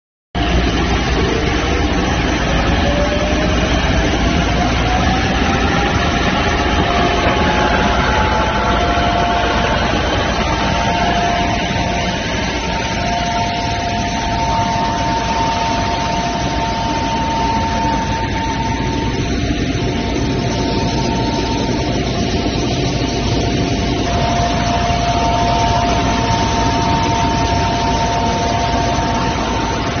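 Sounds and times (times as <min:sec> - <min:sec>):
rising machine whine: 0:00.4 - 0:30.0
sweeper truck engine and blower: 0:00.4 - 0:30.0.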